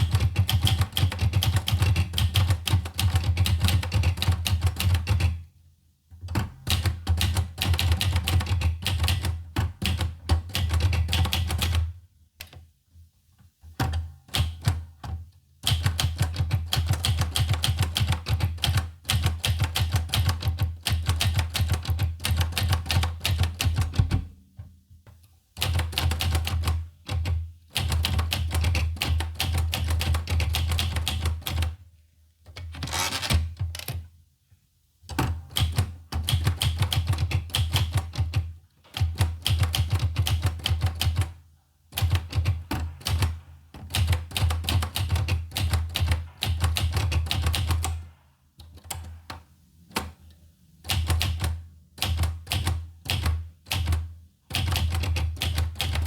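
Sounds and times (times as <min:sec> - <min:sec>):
manual typewriter typing: 0:00.0 - 0:05.4, 0:06.3 - 0:11.9, 0:15.6 - 0:24.3, 0:25.6 - 0:31.7, 0:32.6 - 0:34.0, 0:35.2 - 0:41.3, 0:42.0 - 0:49.3, 0:50.9 - 0:56.0.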